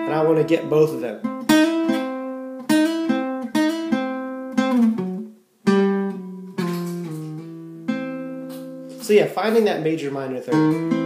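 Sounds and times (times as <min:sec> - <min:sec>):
acoustic guitar blues lick: 0:00.0 - 0:09.7, 0:10.5 - 0:11.0.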